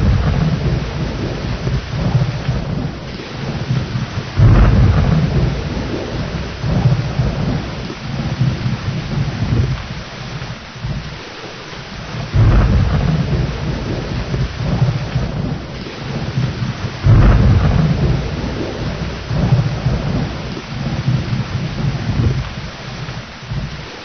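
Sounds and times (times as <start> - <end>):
heavy rain: 0.0 - 24.0
rolling thunder claps: 0.0 - 24.0.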